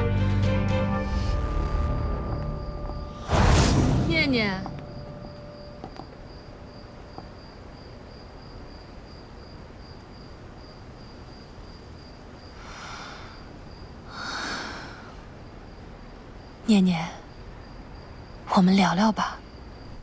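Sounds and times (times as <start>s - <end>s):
crickets trilling: 1.0s - 20.0s.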